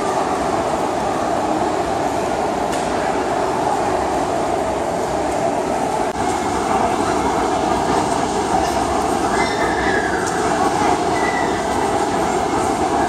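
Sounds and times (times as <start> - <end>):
large crowd talking and eating: 0.0 - 13.0.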